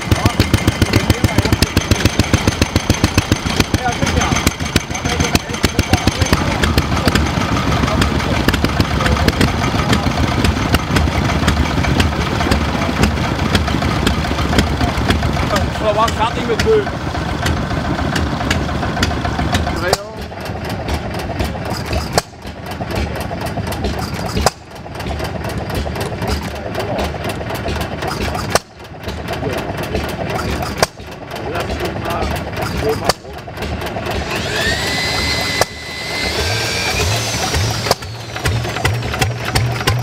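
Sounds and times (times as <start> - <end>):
sharp engine clicks: 0.0 - 40.0
stationary engine running: 0.0 - 40.0.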